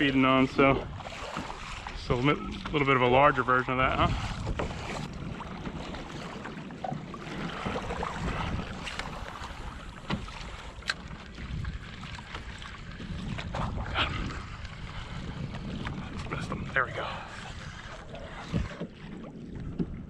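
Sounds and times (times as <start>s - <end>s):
water sloshing against hull: 0.0s - 20.0s
wind buffeting microphone: 0.0s - 20.0s.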